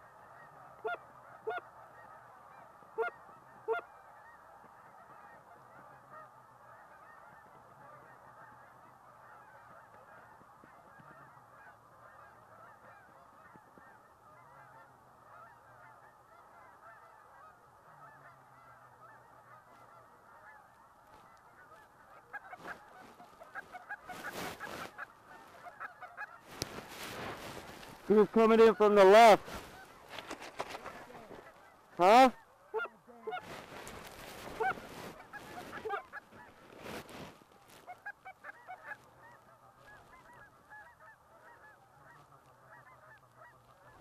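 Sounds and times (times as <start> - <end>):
geese honking: 0.0 - 44.0.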